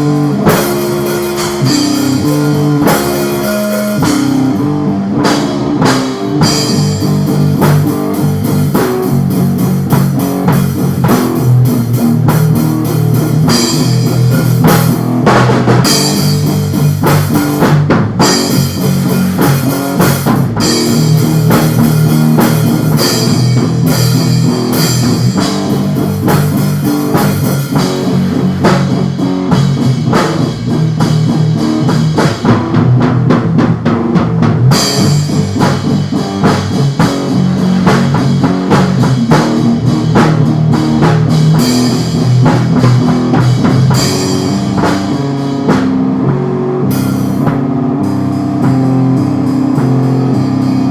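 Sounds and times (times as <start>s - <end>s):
drum kit beat: 0.0s - 50.9s
electric guitar: 0.0s - 50.9s.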